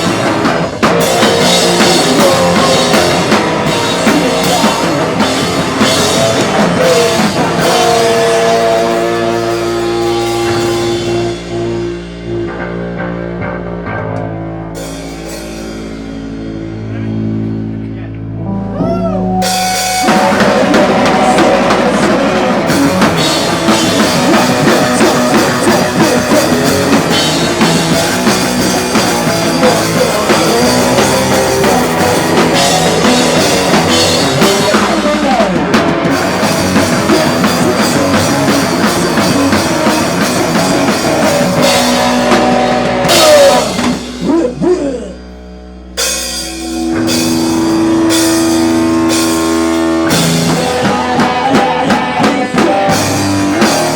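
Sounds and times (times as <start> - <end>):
drum kit and cymbals: 0.0 - 12.6, 14.8 - 17.7, 18.8 - 53.9
live rock band: 0.0 - 53.9
sustained guitar notes: 0.0 - 53.9.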